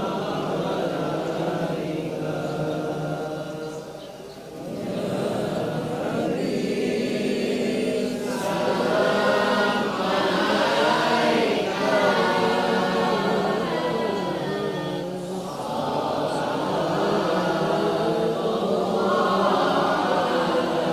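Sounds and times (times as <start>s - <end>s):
man reciting melodically: 0.0s - 20.9s.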